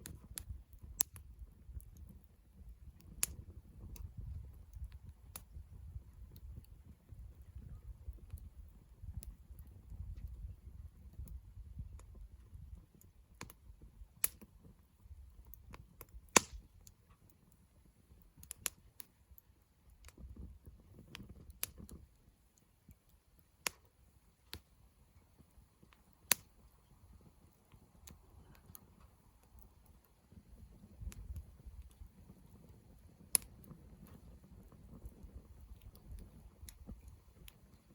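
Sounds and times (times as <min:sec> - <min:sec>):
campfire crackling: 0:00.0 - 0:37.9.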